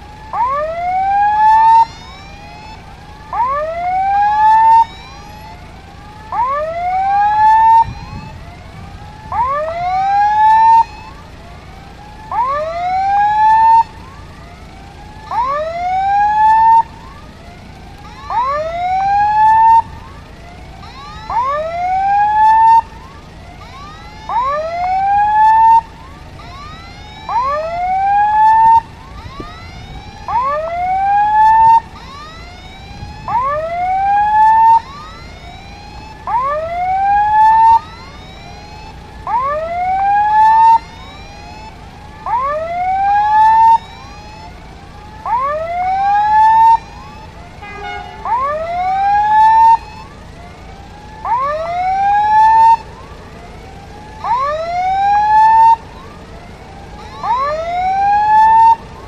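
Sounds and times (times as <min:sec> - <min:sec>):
level-crossing warning alarm: 0:00.0 - 0:59.0.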